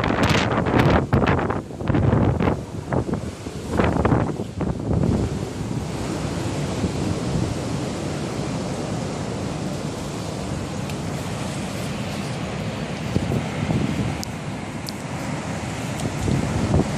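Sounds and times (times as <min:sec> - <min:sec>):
strong wind rushing: 0:00.0 - 0:16.9
wind buffeting microphone: 0:00.0 - 0:16.9.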